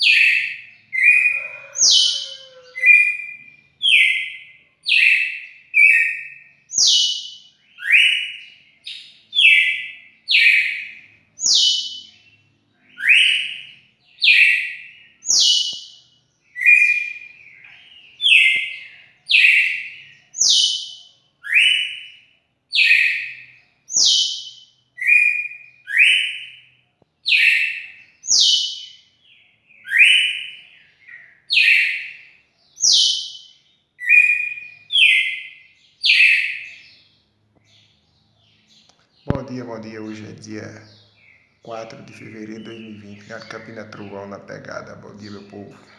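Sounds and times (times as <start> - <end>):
bird singing whistled notes: 0.0 - 44.1.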